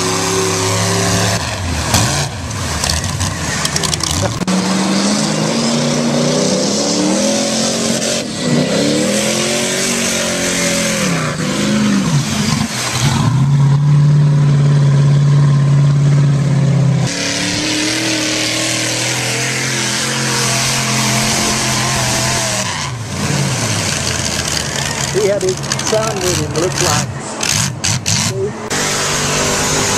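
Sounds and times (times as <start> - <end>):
engines revving hard: 0.0 - 29.9.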